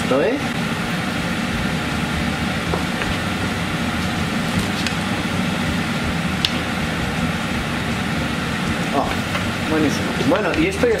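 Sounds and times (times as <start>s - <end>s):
extractor hood fan running: 0.0s - 11.0s.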